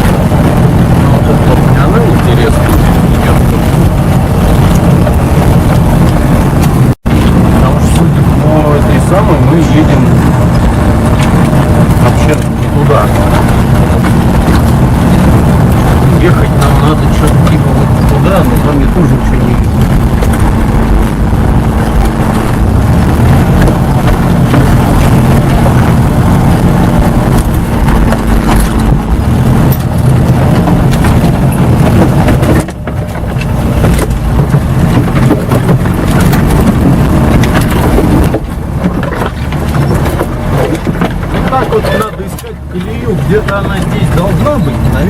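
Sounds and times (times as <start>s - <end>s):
car engine drone from inside: 0.0s - 45.0s.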